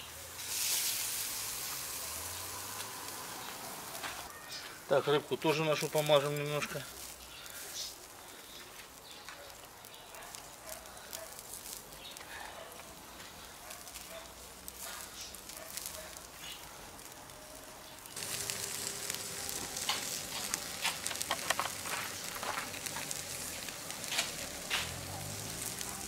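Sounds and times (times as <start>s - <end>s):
fish sizzling on a grill: 0.0s - 26.0s.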